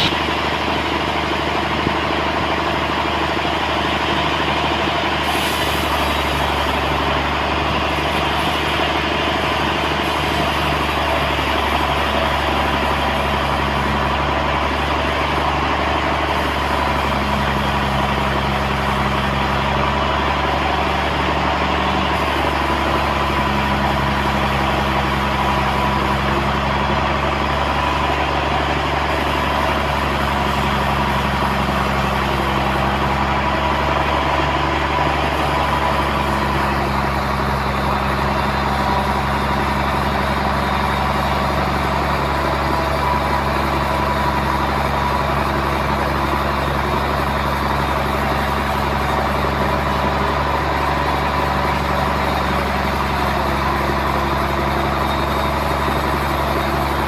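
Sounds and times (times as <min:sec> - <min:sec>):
machinery engine drone: 0:00.0 - 0:57.0
steady machine whine: 0:00.0 - 0:57.0.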